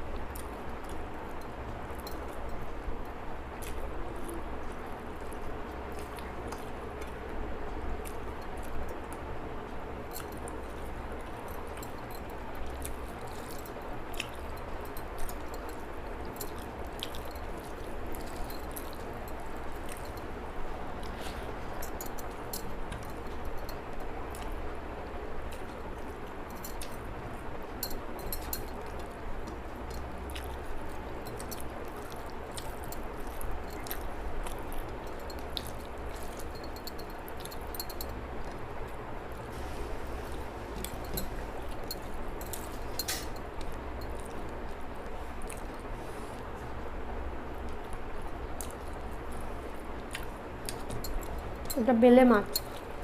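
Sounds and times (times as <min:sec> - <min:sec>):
low background hum: 0:00.0 - 0:53.0
chewing food: 0:00.1 - 0:53.0.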